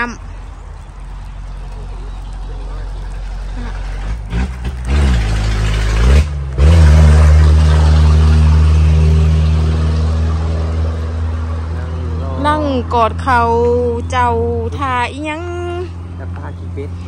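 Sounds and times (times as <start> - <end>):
engine revving: 1.6 - 17.0.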